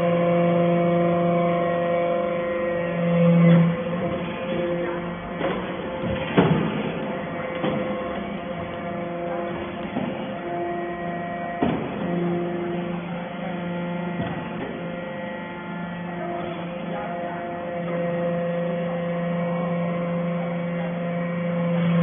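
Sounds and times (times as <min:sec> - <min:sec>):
hydraulic pump motor humming: 0:00.0 - 0:22.0.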